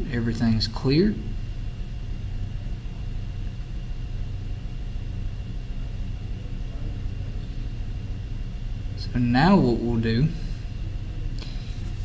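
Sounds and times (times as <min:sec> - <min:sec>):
faint high whine: 0:00.0 - 0:12.0
machinery humming: 0:00.0 - 0:12.0.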